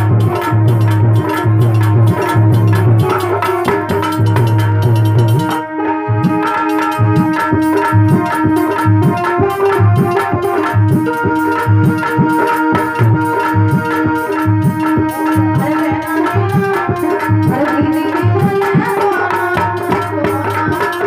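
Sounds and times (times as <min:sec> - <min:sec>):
hand drum beat: 0:00.0 - 0:05.6, 0:06.2 - 0:21.0
held keyboard notes: 0:00.0 - 0:21.0.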